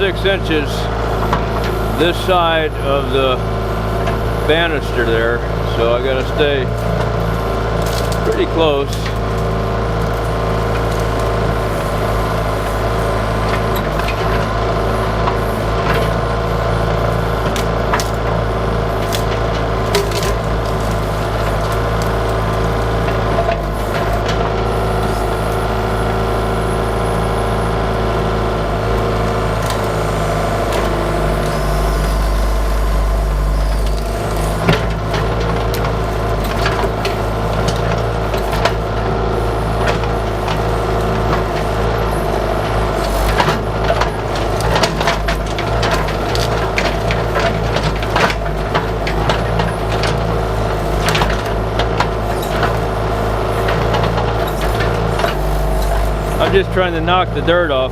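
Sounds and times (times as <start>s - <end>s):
excavator diesel engine running: 0.0s - 57.9s
roots and branches cracking: 5.7s - 26.4s, 28.0s - 57.9s.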